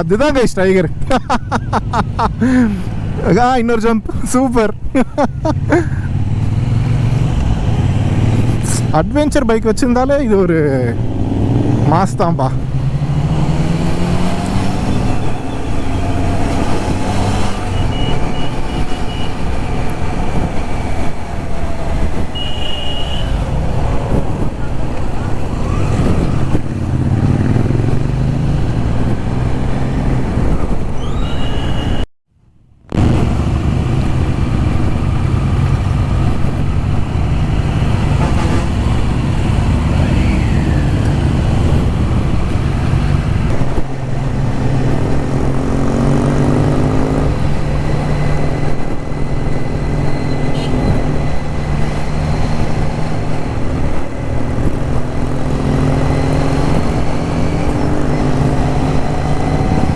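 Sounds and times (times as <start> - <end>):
road noise: 0.0 - 59.9
motorcycle engine cruising: 0.7 - 9.1, 10.6 - 32.0, 32.9 - 59.9.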